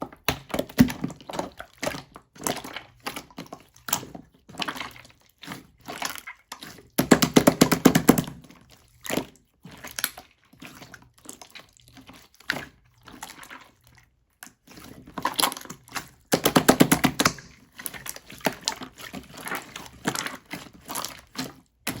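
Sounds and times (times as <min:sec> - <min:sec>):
slime squelching and popping: 0:00.0 - 0:22.0.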